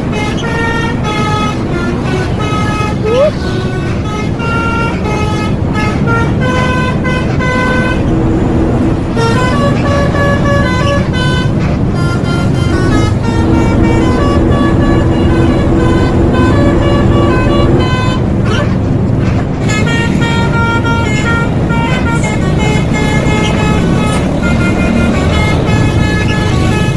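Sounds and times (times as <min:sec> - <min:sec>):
horn playing a melody: 0:00.0 - 0:08.1, 0:09.1 - 0:18.7, 0:19.6 - 0:26.9
low vehicle rumble: 0:00.0 - 0:26.9.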